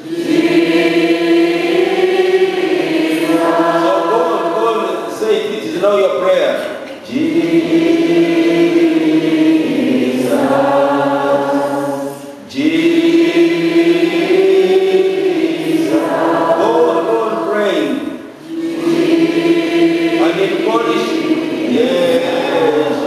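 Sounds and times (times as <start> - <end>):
voices singing a slow chant: 0.0 - 6.2, 6.9 - 23.0.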